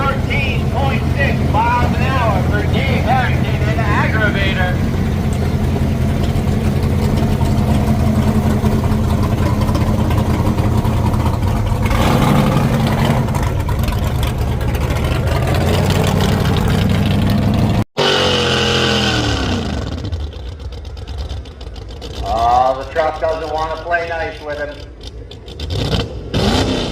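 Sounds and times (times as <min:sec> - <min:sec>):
truck engine running hard under load: 0:00.0 - 0:26.9.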